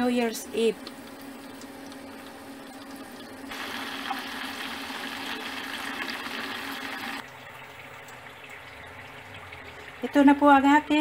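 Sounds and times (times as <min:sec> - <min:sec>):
oil bubbling and sizzling: 0:00.0 - 0:11.0.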